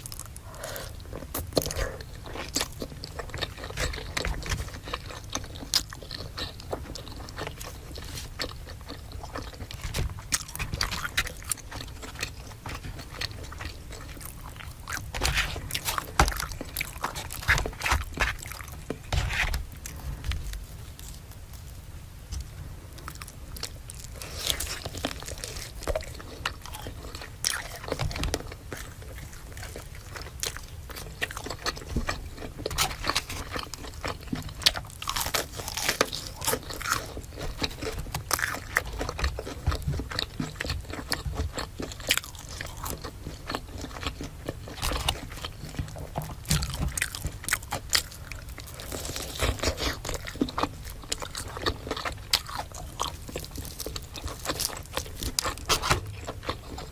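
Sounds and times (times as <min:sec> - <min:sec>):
crunchy food chewing: 0:00.0 - 0:56.9.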